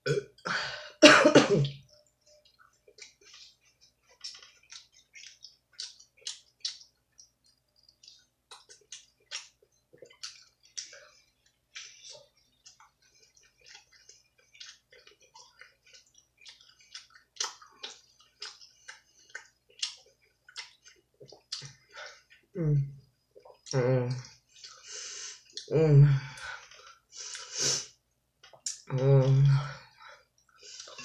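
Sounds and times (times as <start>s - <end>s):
person chewing with wet smacks: 1.6s - 25.8s, 26.4s - 29.3s, 30.3s - 31.0s.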